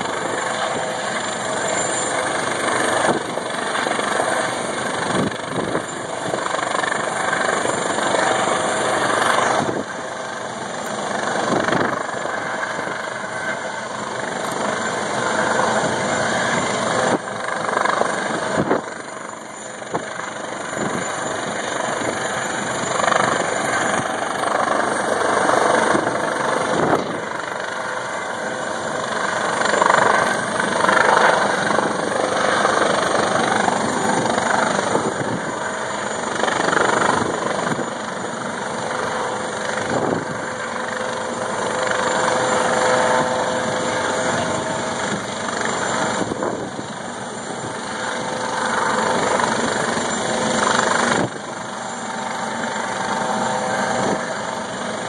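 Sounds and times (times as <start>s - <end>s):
helicopter hovering overhead: 0.0s - 55.0s.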